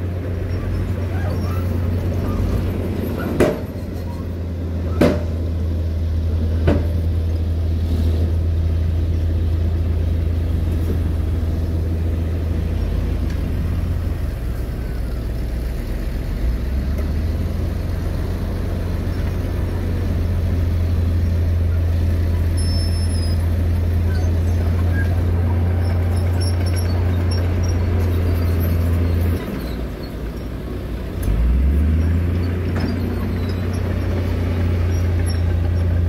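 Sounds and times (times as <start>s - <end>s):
diesel truck engine droning: 0.0s - 36.0s.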